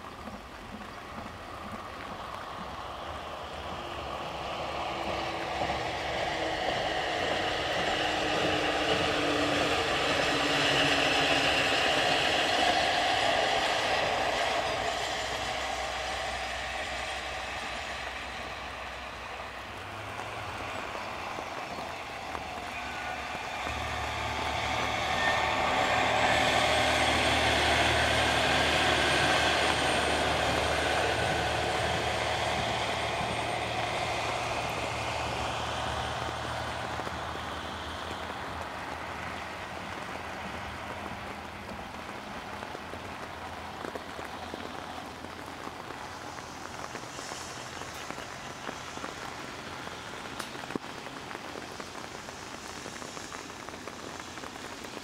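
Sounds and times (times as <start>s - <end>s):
diesel railcar engine hum: 0.0s - 55.0s
steady rain: 0.0s - 55.0s
train wheel noise: 0.0s - 55.0s.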